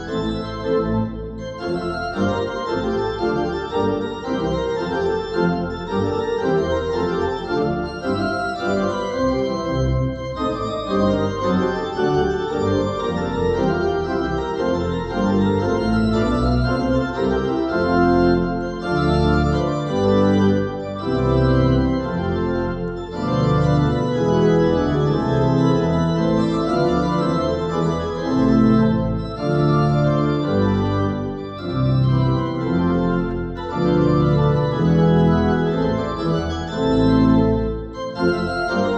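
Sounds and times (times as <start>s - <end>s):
church organ chords: 0.0s - 38.9s.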